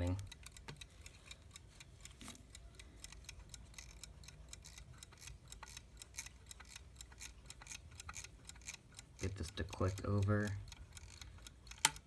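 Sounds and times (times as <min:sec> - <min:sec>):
clock hands clicking: 0:00.0 - 0:12.0
clock ticking: 0:00.0 - 0:12.0.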